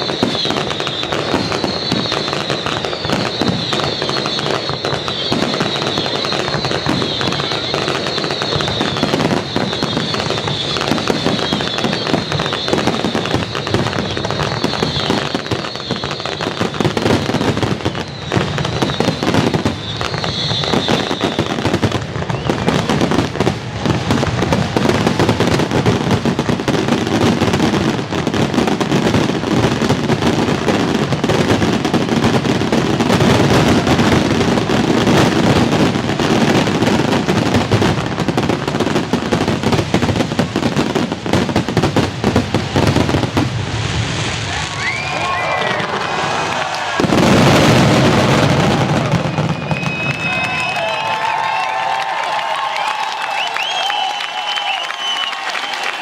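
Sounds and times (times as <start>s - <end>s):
fireworks bangs and crackles: 0.0s - 56.0s
fireworks sizzling: 0.0s - 56.0s.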